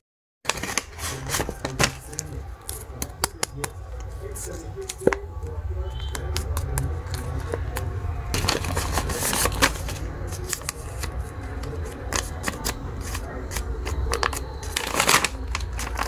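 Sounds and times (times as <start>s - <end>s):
paper rustling and crinkling: 0.5s - 5.2s, 6.3s - 16.0s.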